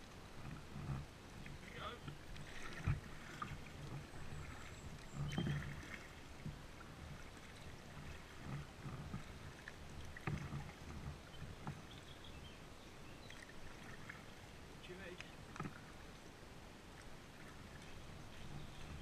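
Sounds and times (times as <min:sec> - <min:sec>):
paddle strokes splashing in water: 0:00.0 - 0:19.0.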